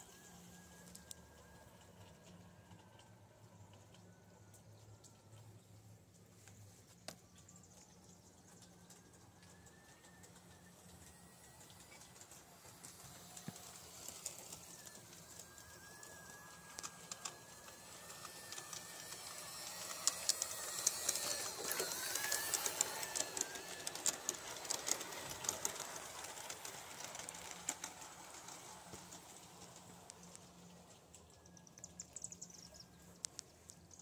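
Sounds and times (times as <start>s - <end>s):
model train wheels clicking: 0.0s - 5.6s, 7.0s - 34.0s.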